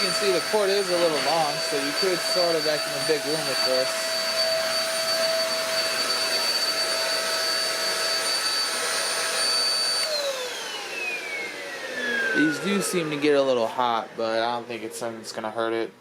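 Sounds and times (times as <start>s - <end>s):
vacuum motor winding down: 0.0s - 15.7s
vacuum cleaner motor whine: 0.0s - 16.0s.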